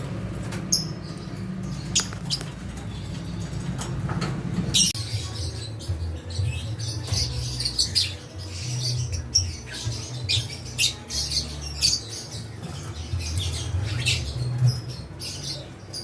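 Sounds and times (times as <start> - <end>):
lovebirds squawking and chirping: 0.0 - 16.0.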